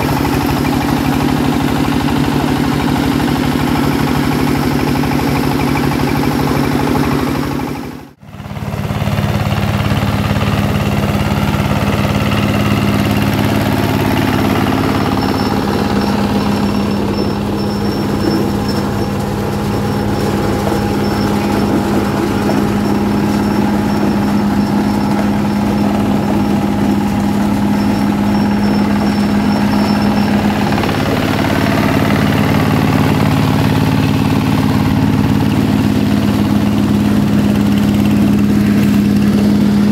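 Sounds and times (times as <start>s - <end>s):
corn sheller mechanical drone: 0.0s - 39.9s.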